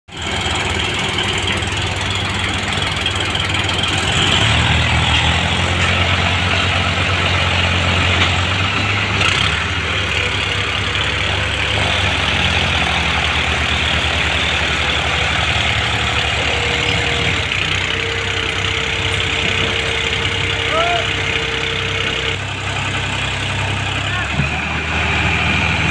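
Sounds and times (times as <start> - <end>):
tractor diesel engine under load: 0.1 - 25.9.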